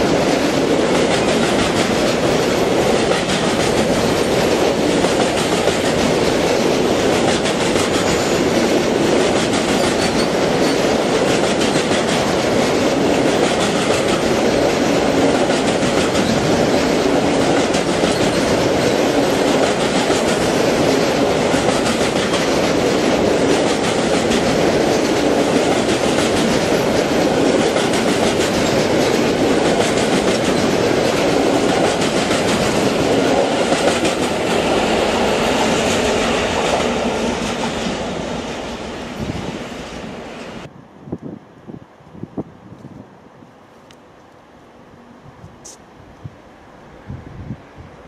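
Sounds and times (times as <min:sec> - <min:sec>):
train wheels clattering on rails: 0:00.0 - 0:40.7.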